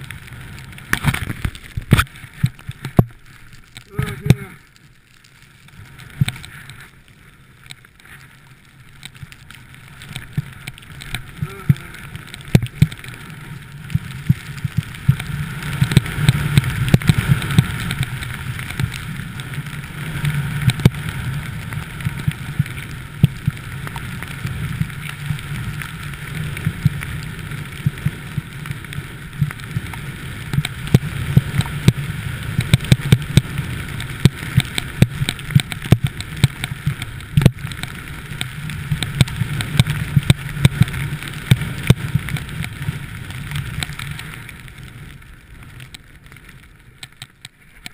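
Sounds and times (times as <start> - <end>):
skis hissing on snow: 0.0 - 4.8, 9.6 - 45.8.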